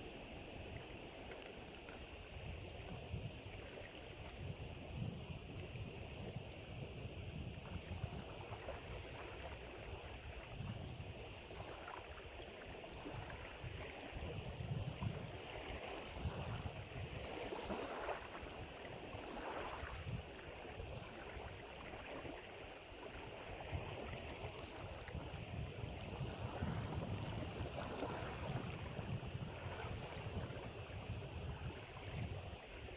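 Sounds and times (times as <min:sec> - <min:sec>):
small waves washing: 0:00.0 - 0:32.9
wind buffeting the microphone: 0:00.0 - 0:32.9.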